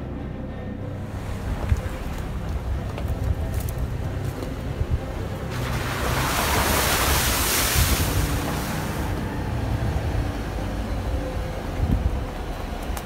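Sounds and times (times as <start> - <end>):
vehicle engine and suspension rumble: 0.0 - 13.0
wind on microphone: 1.1 - 10.4, 11.1 - 13.0.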